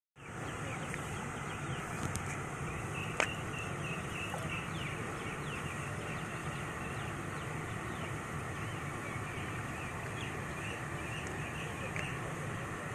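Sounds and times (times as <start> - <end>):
outdoor background hum: 0.2 - 12.9
small birds chirping: 0.2 - 12.9.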